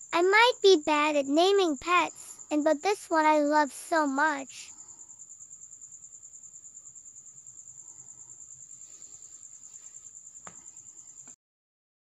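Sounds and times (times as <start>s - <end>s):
insect trilling: 0.0s - 11.3s.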